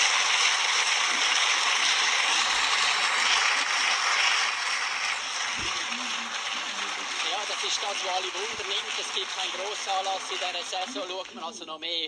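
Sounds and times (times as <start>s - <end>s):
studio audience applauding: 0.0s - 11.6s.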